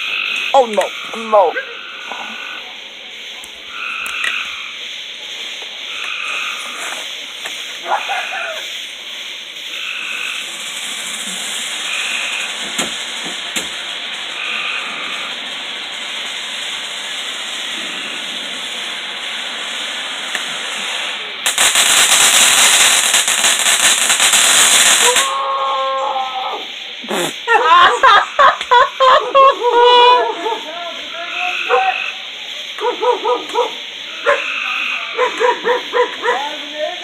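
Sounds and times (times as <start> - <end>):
dense firework crackling: 0.0 - 37.0
firework fountain hissing: 0.0 - 37.0.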